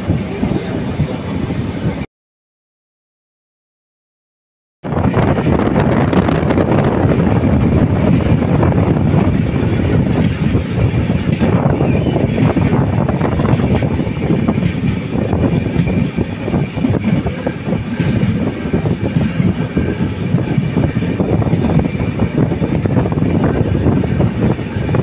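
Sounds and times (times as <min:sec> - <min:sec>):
train wheels rumbling on rails: 0:00.0 - 0:02.0, 0:04.8 - 0:25.0.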